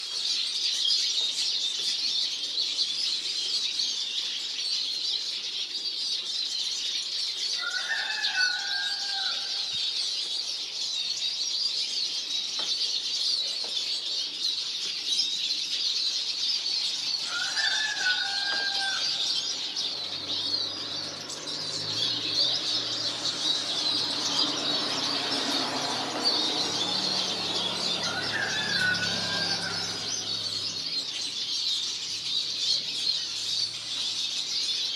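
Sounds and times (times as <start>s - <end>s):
small songbirds twittering: 0.0s - 34.9s.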